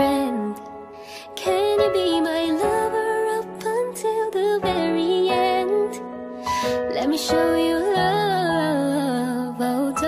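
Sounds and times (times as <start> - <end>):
pop music: 0.0 - 10.0.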